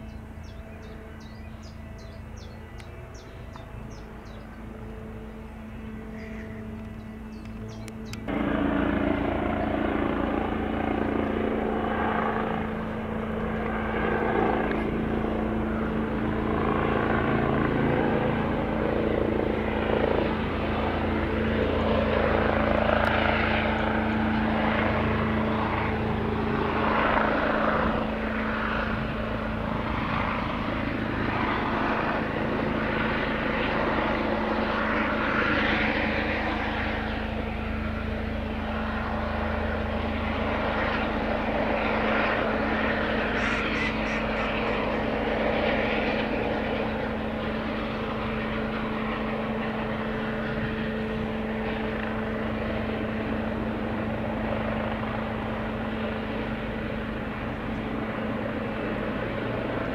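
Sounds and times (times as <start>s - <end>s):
helicopter flying low: 0.0s - 59.9s.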